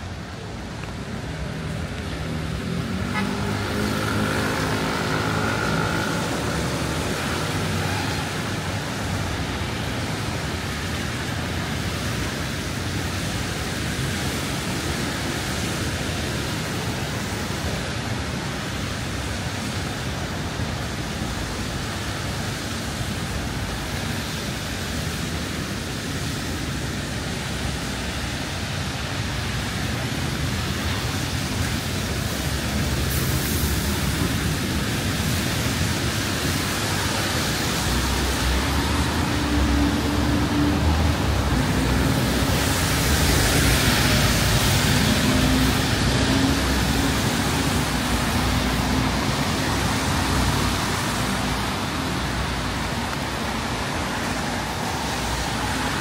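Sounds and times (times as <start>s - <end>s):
passing vehicles hiss: 0.0s - 56.0s.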